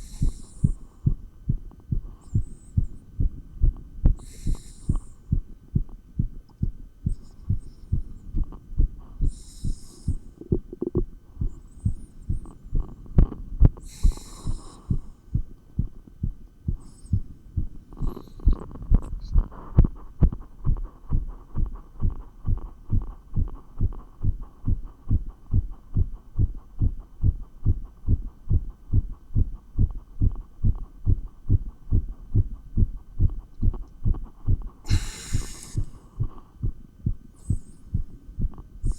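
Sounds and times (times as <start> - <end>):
fast heartbeat through stethoscope: 0.0 - 38.9.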